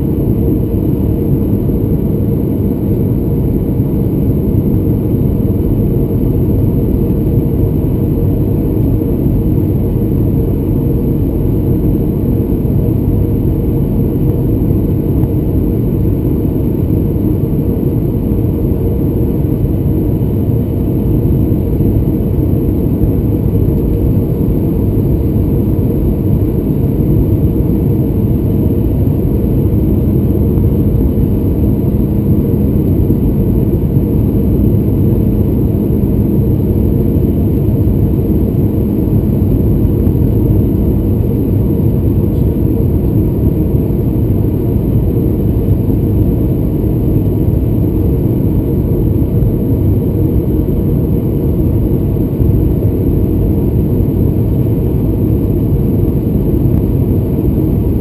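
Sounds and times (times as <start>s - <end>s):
airflow over airframe: 0.0s - 58.0s
jet engines rumbling in cabin: 0.0s - 58.0s.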